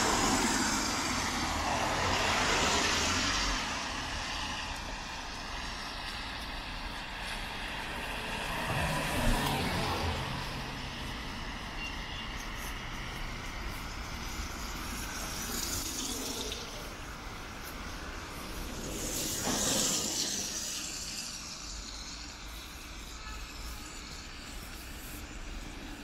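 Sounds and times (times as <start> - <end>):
tyres hissing on wet road: 0.0 - 26.0.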